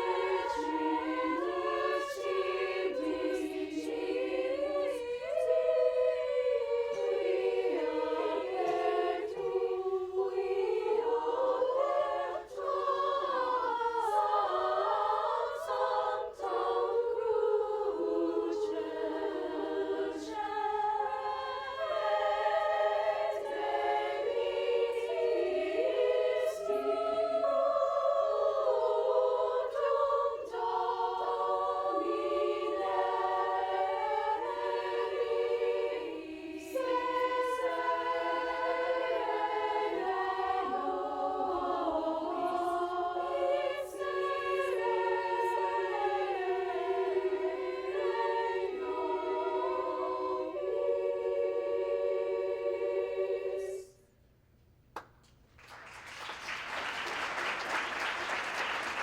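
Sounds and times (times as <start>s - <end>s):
choir singing in harmony: 0.0s - 54.2s, 56.2s - 59.0s.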